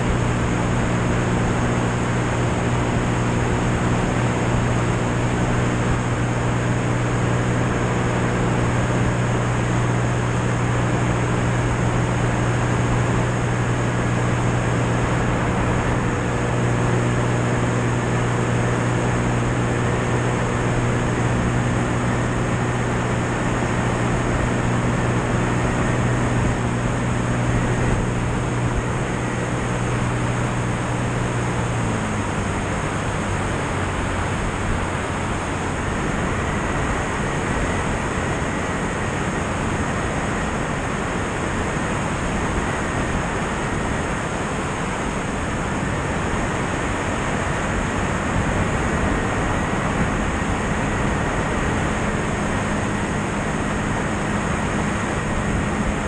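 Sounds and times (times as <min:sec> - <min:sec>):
aircraft engine and propeller drone: 0:00.0 - 0:56.0
wind rushing over microphone: 0:00.0 - 0:56.0.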